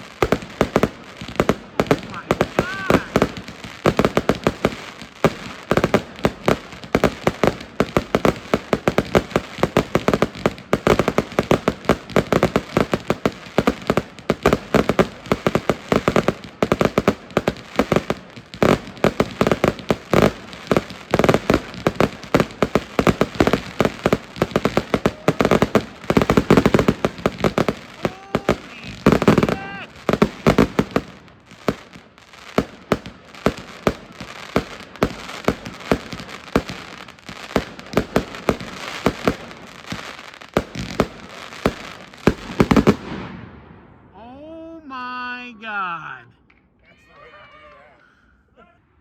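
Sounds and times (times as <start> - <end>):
fireworks barrage: 0.0 - 46.6
sharp fireworks cracks: 0.0 - 46.8.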